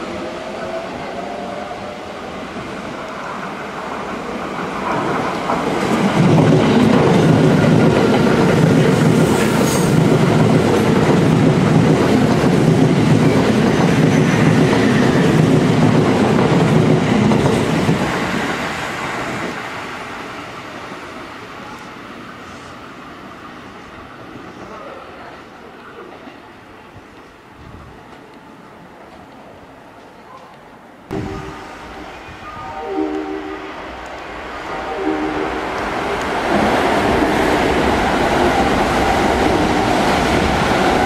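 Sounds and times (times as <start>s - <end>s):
electric train passing: 0.0s - 30.0s, 31.0s - 41.0s.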